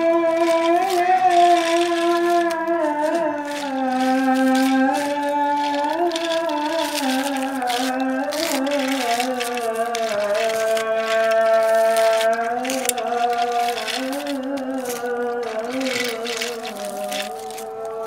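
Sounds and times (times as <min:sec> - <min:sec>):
toy rattling on concrete: 0:00.0 - 0:18.0.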